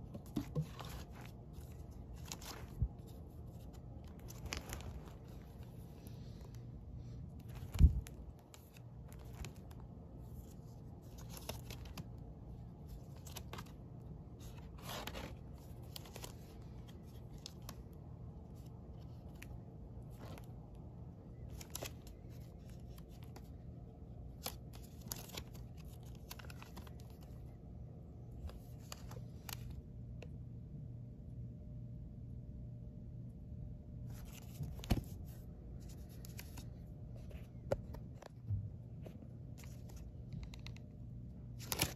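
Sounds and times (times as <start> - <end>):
records in plastic sleeves flipped: 0.0 - 6.6, 7.2 - 27.6, 28.3 - 30.4, 34.1 - 41.9.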